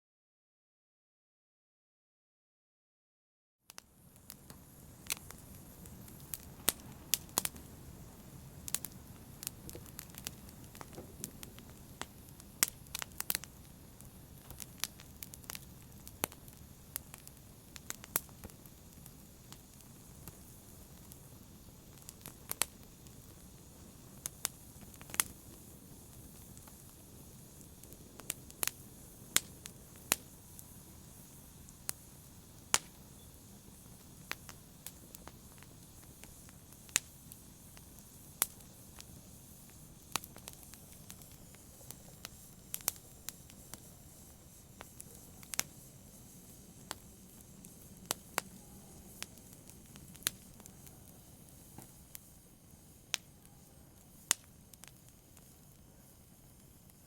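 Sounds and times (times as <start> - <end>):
fire hissing: 3.7 - 57.0
wood fire crackling: 3.7 - 57.0.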